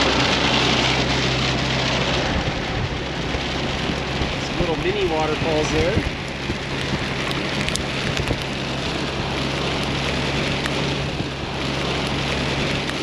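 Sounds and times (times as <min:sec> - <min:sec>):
engine and road hum: 0:00.0 - 0:13.0
hard rain beating on a truck: 0:00.0 - 0:13.0.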